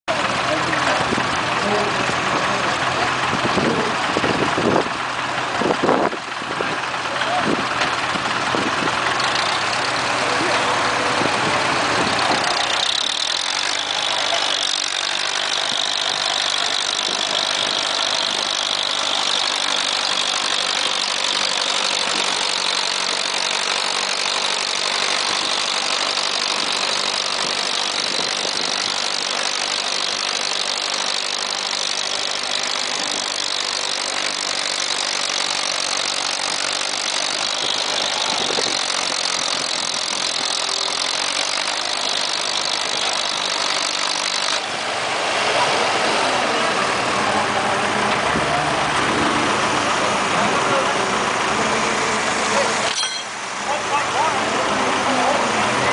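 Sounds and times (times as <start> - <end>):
tractor engine running under load: 0.1 - 55.9.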